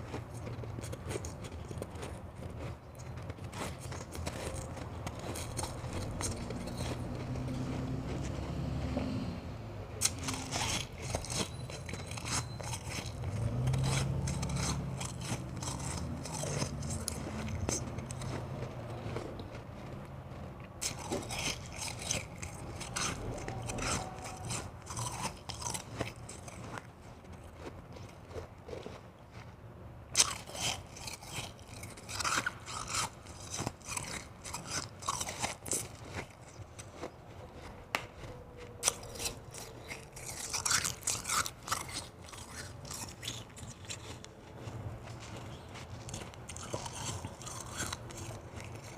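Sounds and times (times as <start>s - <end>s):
ice being chewed: 0.0s - 9.3s, 10.0s - 48.9s.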